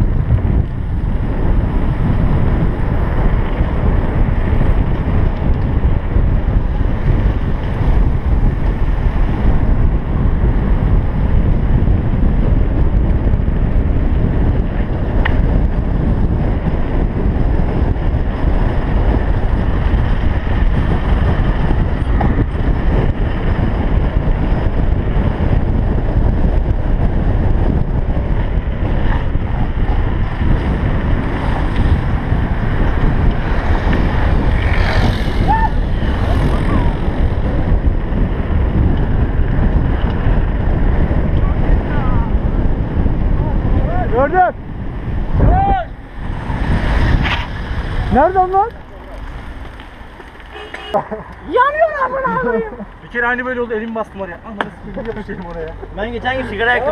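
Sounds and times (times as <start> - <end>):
bike tyres rumbling over paving: 0.0 - 56.9
wind buffeting microphone: 0.0 - 56.9.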